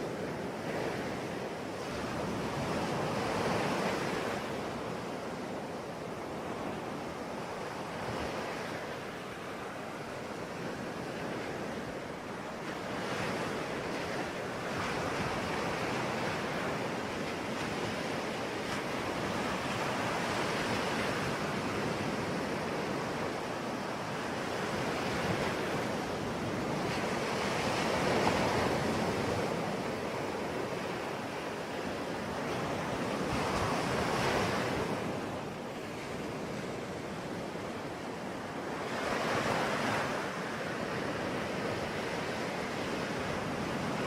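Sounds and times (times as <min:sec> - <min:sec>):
waves washing onto shore: 0:00.0 - 0:44.0.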